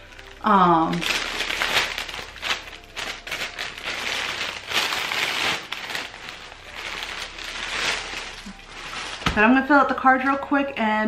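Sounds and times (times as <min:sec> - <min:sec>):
cellophane and paper crinkling: 0:00.0 - 0:10.6.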